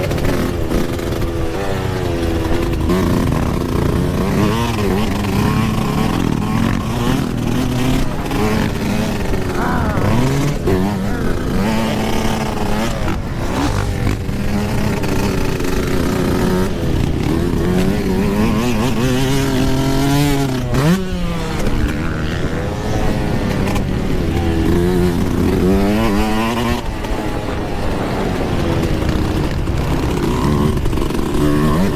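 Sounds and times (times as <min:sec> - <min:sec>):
dirt bike engine revving: 0:00.0 - 0:31.9.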